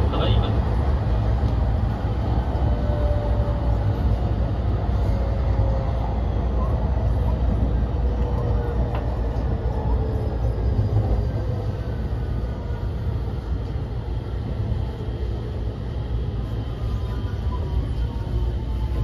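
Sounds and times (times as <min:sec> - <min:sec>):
wheels rumbling on rail: 0:00.0 - 0:19.0.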